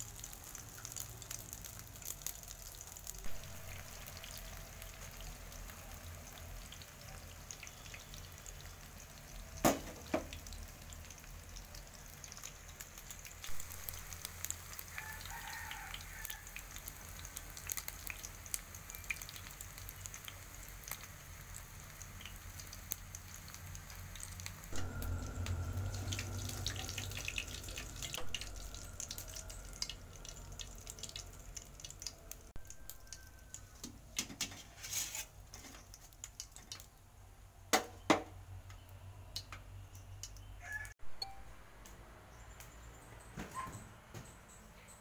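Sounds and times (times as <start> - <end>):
omelet sizzling in oil: 0.0 - 36.9.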